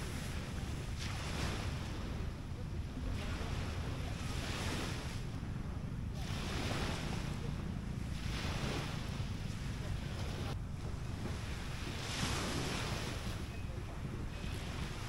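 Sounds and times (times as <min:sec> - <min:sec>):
waves washing onto beach: 0:00.0 - 0:15.0
wind rumble on microphone: 0:00.0 - 0:15.0.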